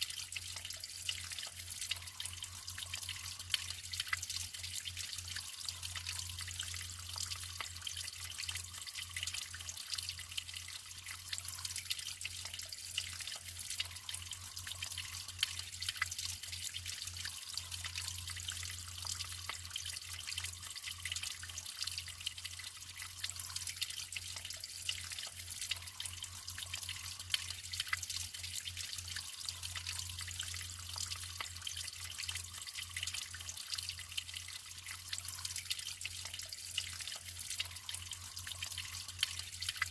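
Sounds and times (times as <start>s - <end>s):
water drips and splashes: 0.0s - 39.9s
water trickling: 0.0s - 39.9s.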